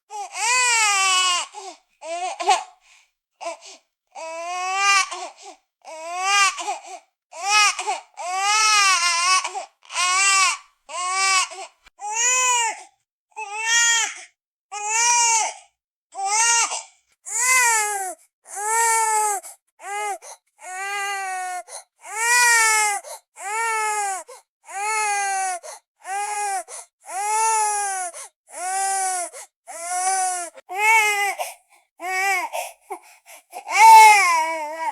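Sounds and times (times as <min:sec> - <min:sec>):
baby crying: 0:00.1 - 0:02.8, 0:04.2 - 0:12.8, 0:13.4 - 0:15.6, 0:16.2 - 0:34.9.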